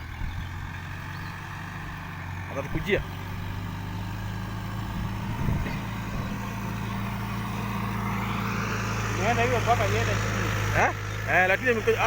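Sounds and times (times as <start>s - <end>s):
backhoe engine humming: 0.0s - 12.0s.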